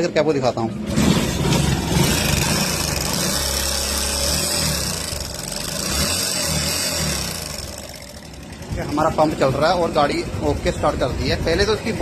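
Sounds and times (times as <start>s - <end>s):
motorcycle engine running: 0.8s - 12.0s.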